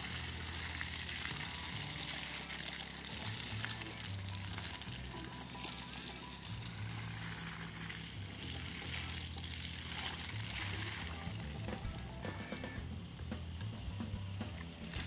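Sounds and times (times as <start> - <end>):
background music with bass: 0.0 - 15.0
hose water spraying: 0.0 - 15.0.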